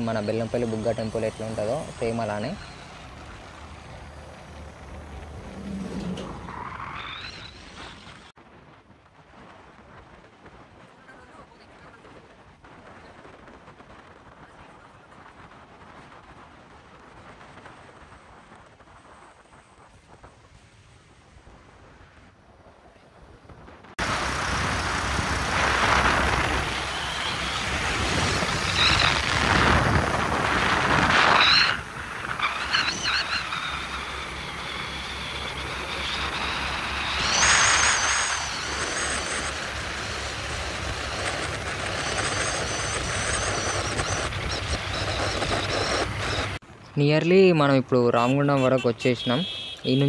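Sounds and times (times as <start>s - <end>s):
wind rush: 0.0s - 46.6s.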